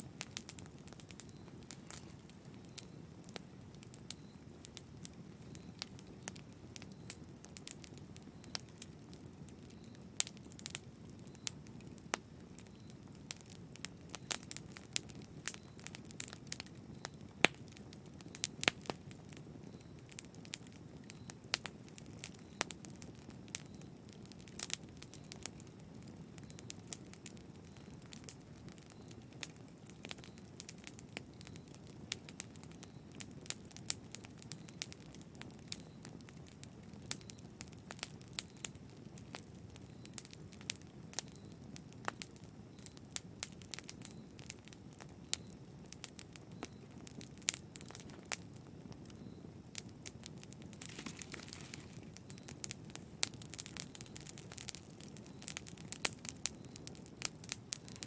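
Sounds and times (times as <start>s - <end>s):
fire pops and snaps: 0.0s - 58.0s
low rumble of flames: 0.0s - 58.0s.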